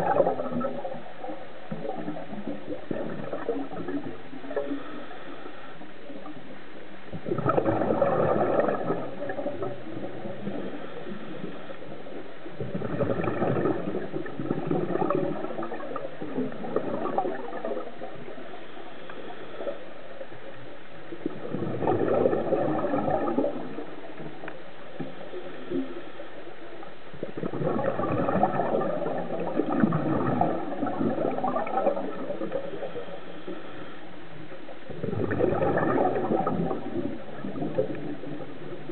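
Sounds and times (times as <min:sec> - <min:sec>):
steady low hiss: 0:00.0 - 0:38.9
underwater gurgling bubbles: 0:00.0 - 0:38.9.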